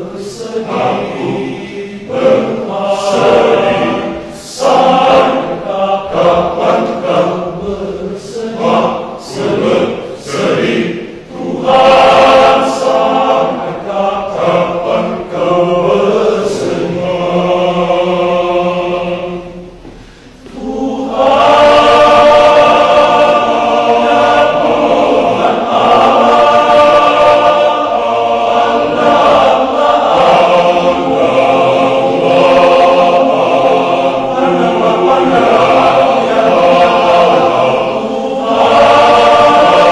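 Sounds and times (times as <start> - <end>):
men's choir singing: 0.0 - 39.9.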